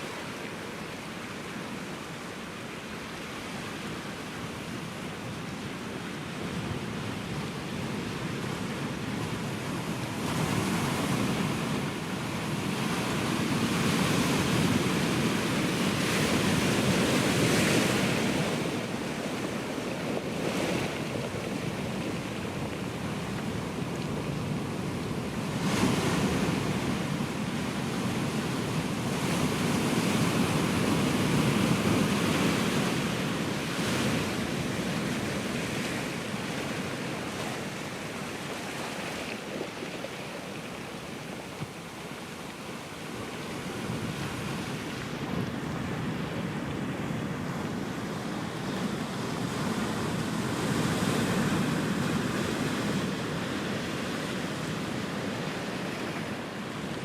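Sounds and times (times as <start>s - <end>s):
ocean surf washing ashore: 0.0s - 57.0s.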